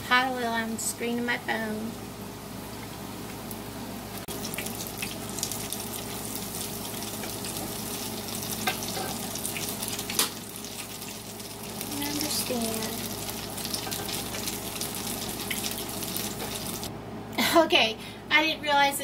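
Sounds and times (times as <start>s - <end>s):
food frying in hot oil: 0.6s - 16.9s.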